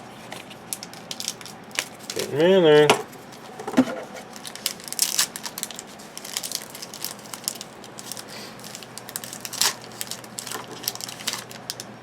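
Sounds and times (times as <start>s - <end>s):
foil wrapper crinkling and rustling: 0.0s - 12.0s.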